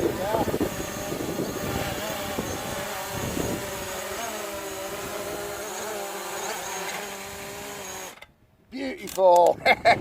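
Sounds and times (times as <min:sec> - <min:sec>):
model aircraft electric motor buzzing: 0:00.0 - 0:08.4.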